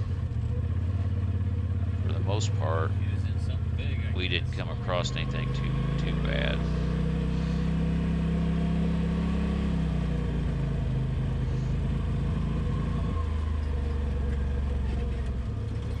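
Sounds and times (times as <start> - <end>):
utility vehicle engine droning: 0.0 - 16.0.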